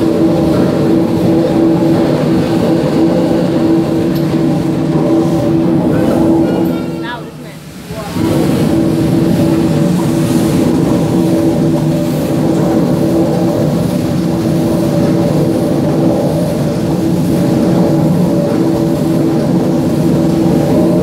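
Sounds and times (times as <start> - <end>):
steam engine running: 0.0 - 21.0.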